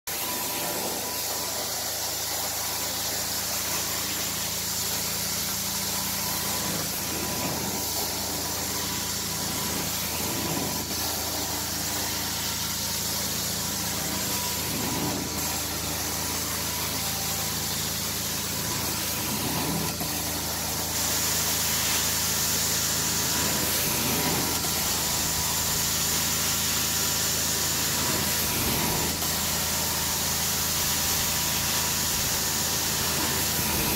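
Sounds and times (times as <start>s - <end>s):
hiss of carpet suction wand: 0.1s - 33.9s.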